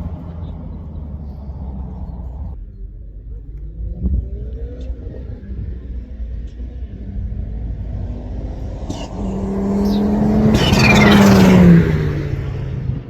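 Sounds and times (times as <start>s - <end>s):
racing car engine passing by: 0.0s - 2.6s, 3.7s - 13.0s.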